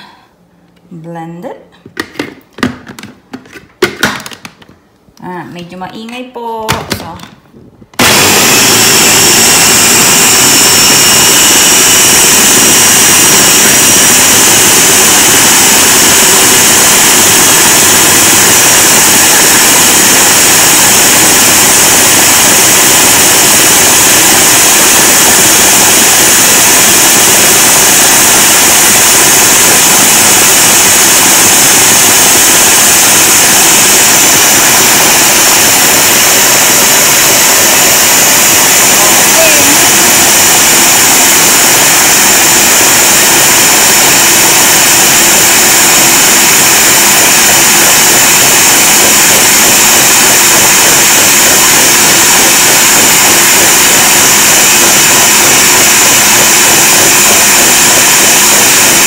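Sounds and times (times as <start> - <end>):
blender motor running: 8.0 - 59.0.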